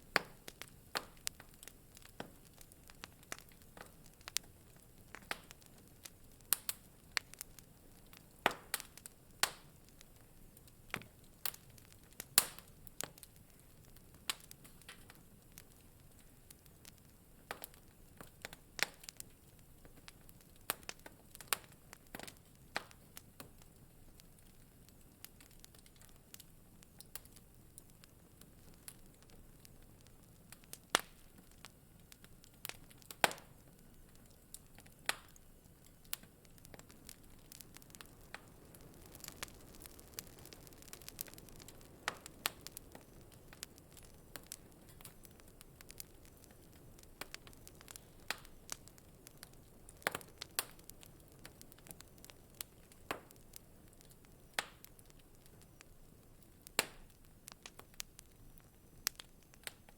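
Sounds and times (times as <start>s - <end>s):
faint steady hiss: 0.0s - 59.9s
wood fire crackling: 0.0s - 59.9s.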